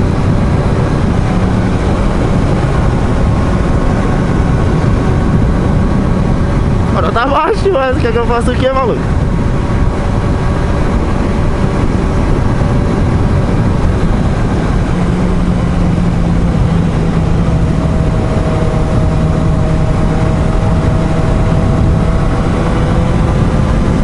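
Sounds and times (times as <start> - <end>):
motorcycle engine hum: 0.0 - 24.0
wind noise on microphone: 0.0 - 24.0.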